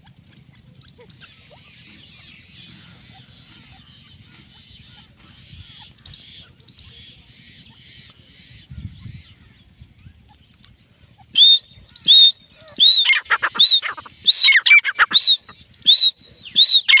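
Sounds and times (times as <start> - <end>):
francolins calling: 0.5 - 17.0.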